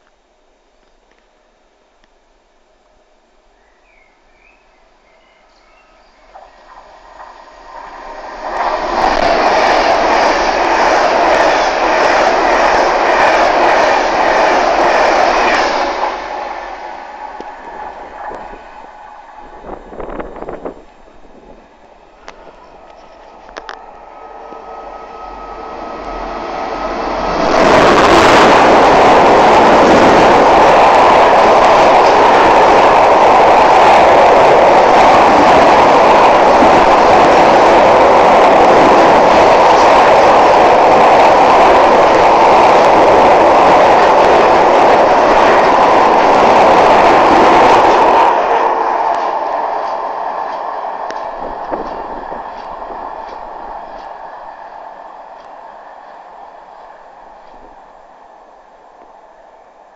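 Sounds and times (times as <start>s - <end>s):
diesel locomotive rushing past: 5.0s - 59.9s.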